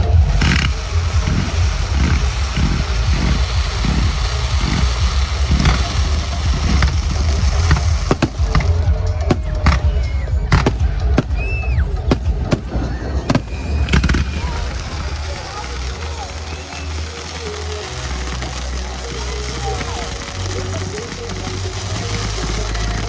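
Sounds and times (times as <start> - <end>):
fireworks bangs and crackles: 0.0 - 23.0
loud music with pulsing bass: 0.0 - 23.0.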